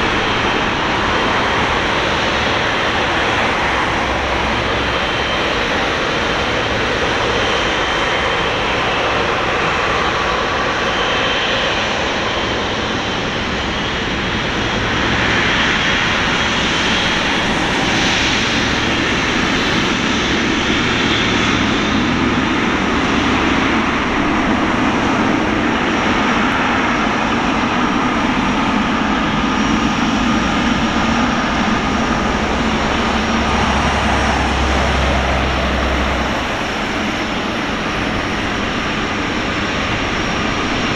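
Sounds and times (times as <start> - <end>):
jet engines taxiing: 0.0 - 40.9.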